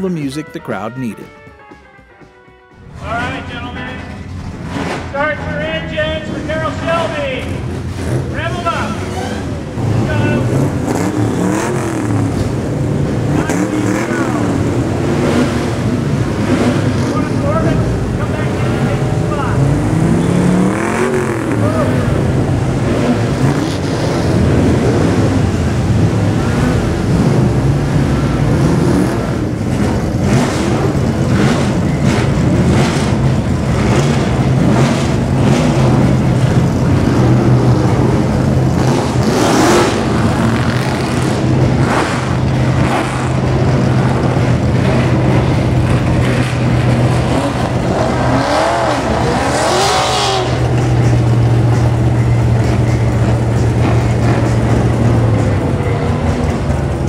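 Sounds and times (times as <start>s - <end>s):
car engines revving: 2.8s - 57.0s.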